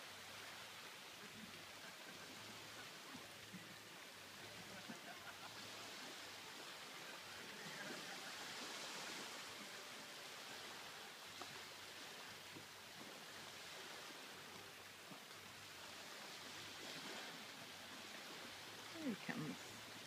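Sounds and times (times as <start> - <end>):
small waves lapping on pebbles: 0.0 - 20.0.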